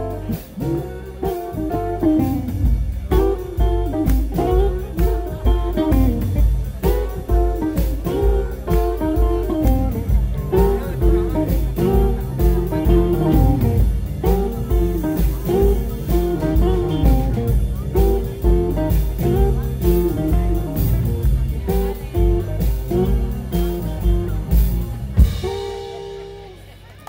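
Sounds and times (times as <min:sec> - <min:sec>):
drums with steady beat: 0:00.0 - 0:27.0
electric bass: 0:00.0 - 0:27.0
electric guitar leading: 0:00.0 - 0:27.0.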